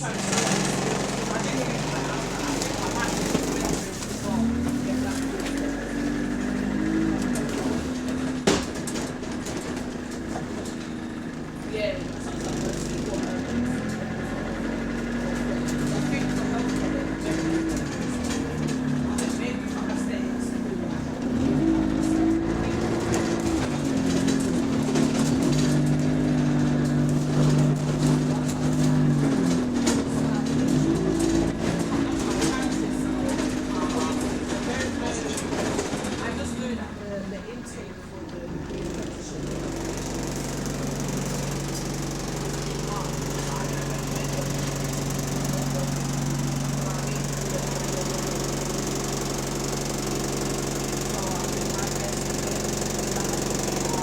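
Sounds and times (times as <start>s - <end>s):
bus engine droning hum: 0.0s - 54.0s.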